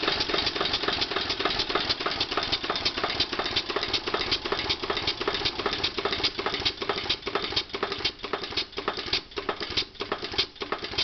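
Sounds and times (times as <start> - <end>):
small steam engine ticking clatter: 0.0 - 11.0.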